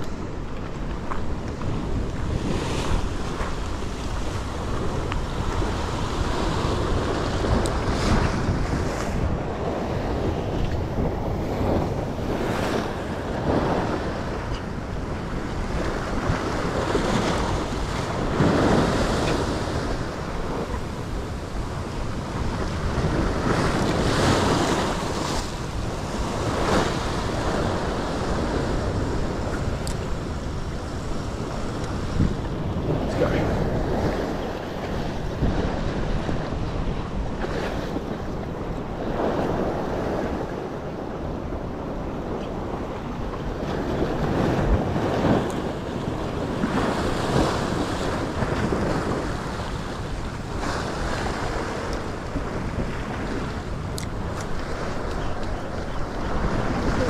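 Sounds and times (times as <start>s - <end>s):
waves breaking against rocks: 0.0s - 57.0s
wind buffeting microphone: 0.0s - 57.0s.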